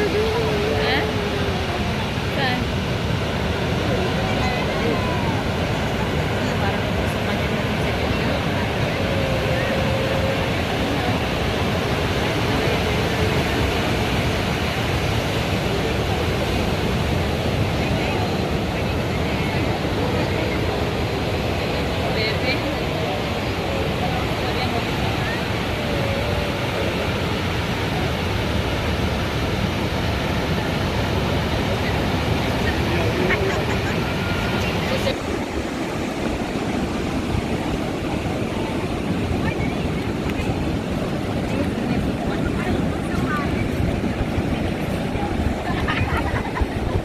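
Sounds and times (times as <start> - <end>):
surf rushing: 0.0 - 47.0
wind: 0.0 - 47.0.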